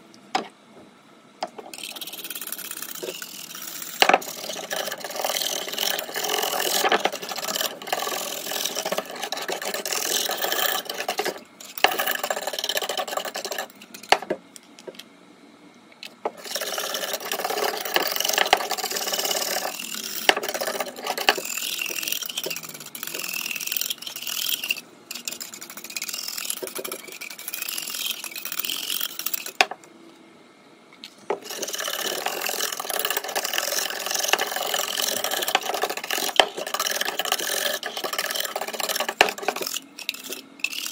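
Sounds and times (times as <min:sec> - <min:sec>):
whisk scraping in metal pot: 0:01.7 - 0:14.3, 0:16.3 - 0:29.6, 0:31.3 - 0:40.9.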